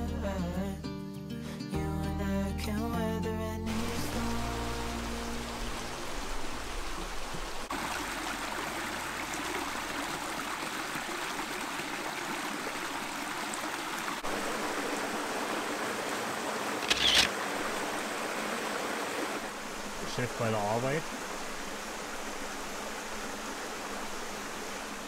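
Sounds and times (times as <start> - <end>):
running water: 3.7 - 25.0.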